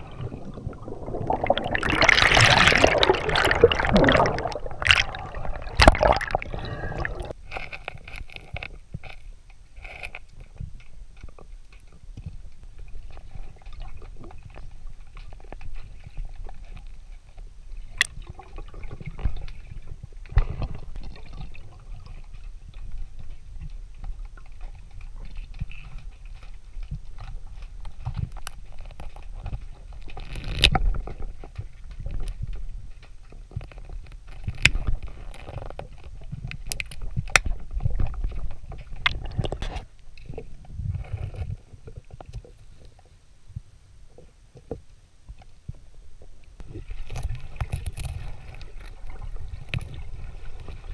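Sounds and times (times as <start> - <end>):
muffled underwater water rumble: 0.0 - 7.6, 8.6 - 50.9.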